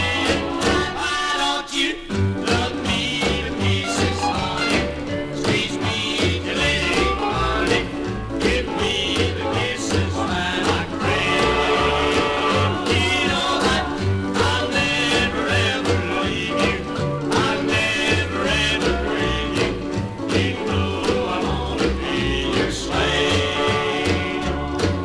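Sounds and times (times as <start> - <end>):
bass beat: 0.0 - 1.0, 2.2 - 25.0
guitar: 0.0 - 25.0
person singing: 0.0 - 25.0.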